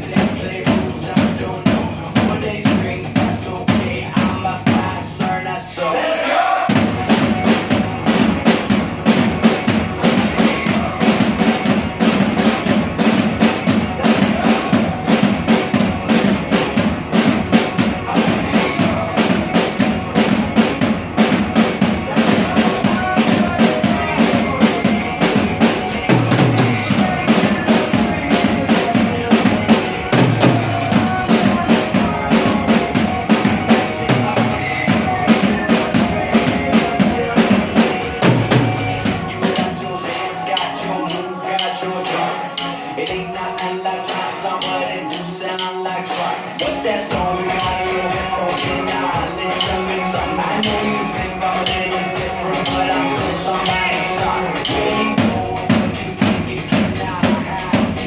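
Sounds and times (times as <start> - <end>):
drum kit playing: 0.0 - 5.6, 6.7 - 58.0
pop-rock backing track: 6.7 - 58.0.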